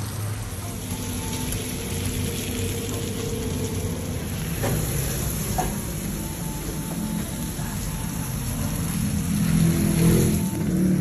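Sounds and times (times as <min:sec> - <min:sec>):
food sizzling on griddle: 0:00.0 - 0:11.0.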